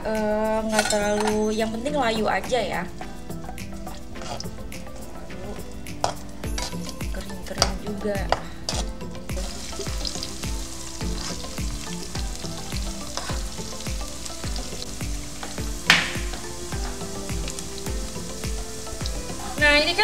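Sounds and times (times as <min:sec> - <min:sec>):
music with steady beat: 0:00.0 - 0:20.0
onions sizzling in hot oil: 0:01.2 - 0:20.0
spatula stirring: 0:03.3 - 0:20.0.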